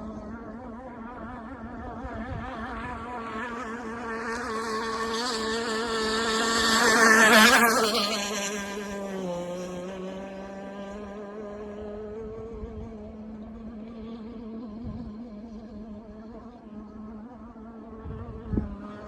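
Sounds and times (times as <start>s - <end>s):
model boat two-stroke engine: 0.0s - 18.0s.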